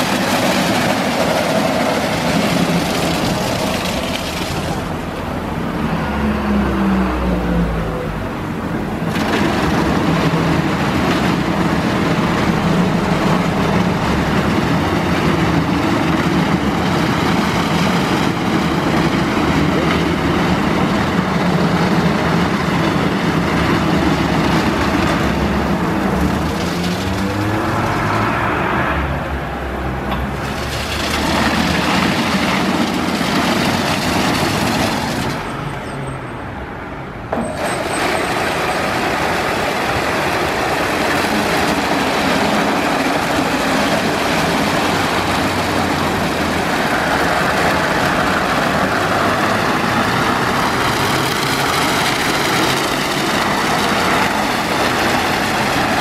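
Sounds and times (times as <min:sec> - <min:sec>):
car wash motors running: 0:00.0 - 0:35.8, 0:37.2 - 0:56.0.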